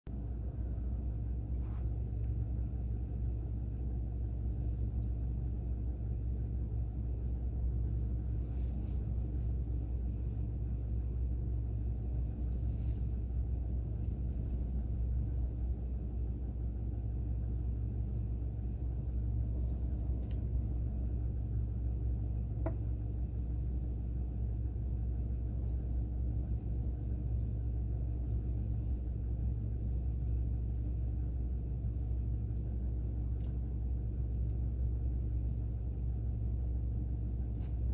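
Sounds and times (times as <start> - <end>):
vehicle engine idling: 0.1 - 37.9.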